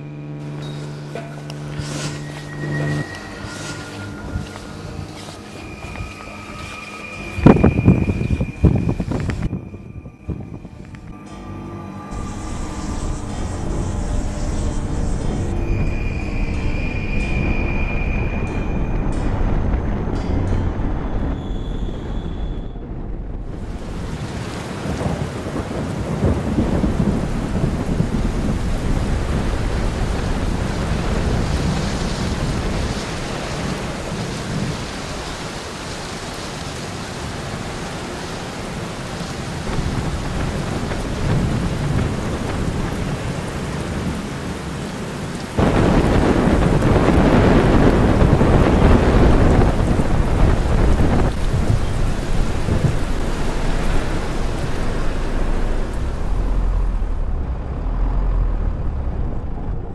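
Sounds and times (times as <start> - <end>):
steady rain: 0.0 - 59.9
thunder rolling: 1.0 - 11.1, 12.1 - 59.9.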